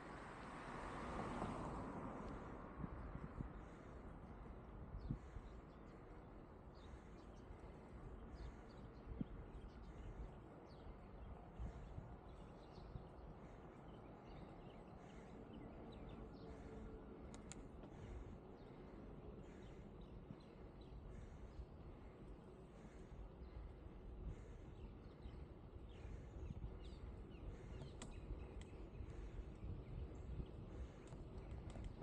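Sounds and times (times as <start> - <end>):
wind and road rumble: 0.0 - 32.0
birds chirping: 3.0 - 32.0.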